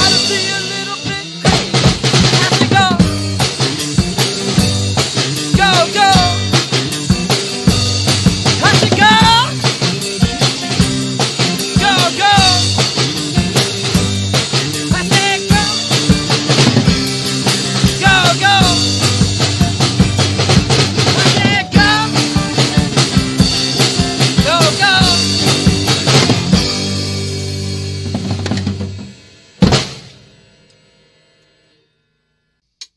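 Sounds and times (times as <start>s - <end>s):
drum kit beat: 0.0s - 30.8s.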